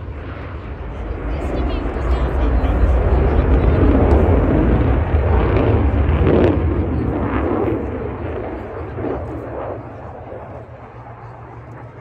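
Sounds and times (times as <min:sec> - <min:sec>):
aircraft engines rumbling overhead: 0:00.0 - 0:12.0
voices: 0:00.2 - 0:12.0.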